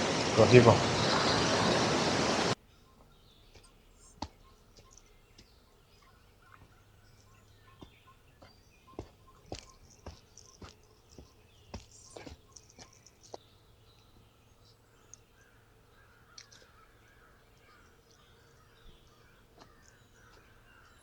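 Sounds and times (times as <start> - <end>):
faint bird calls and chirps: 2.6 - 21.0.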